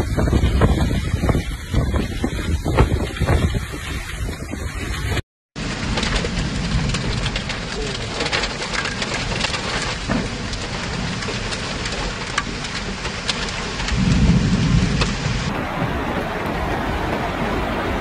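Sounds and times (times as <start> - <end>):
heavy rain on a car: 0.0 - 18.0
low rumble: 0.0 - 18.0.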